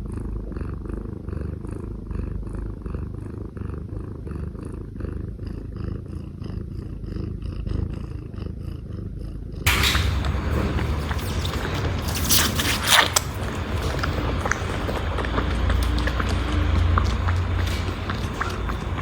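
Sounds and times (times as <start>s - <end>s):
kitten purring: 0.0s - 19.0s.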